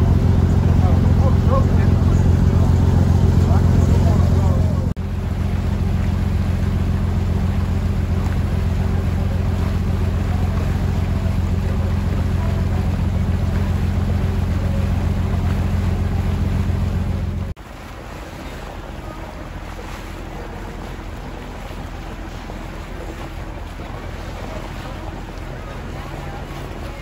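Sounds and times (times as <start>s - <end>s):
boat engine droning: 0.0s - 27.0s
rushing water: 0.0s - 27.0s
wind: 0.0s - 27.0s.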